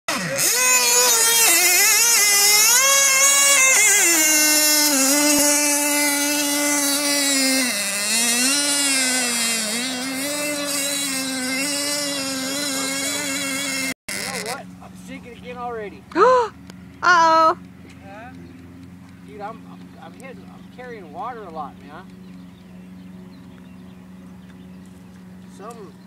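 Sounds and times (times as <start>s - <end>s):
toy boat motor whining: 0.1s - 26.0s.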